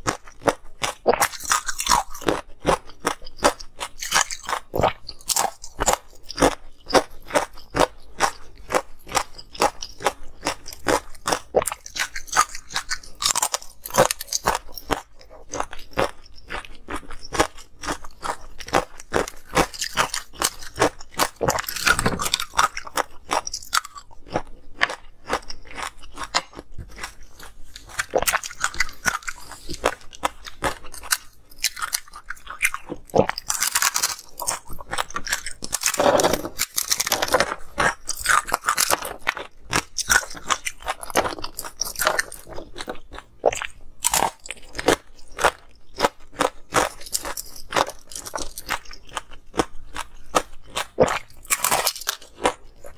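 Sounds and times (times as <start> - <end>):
crunching and chewing ice: 0.0 - 52.9.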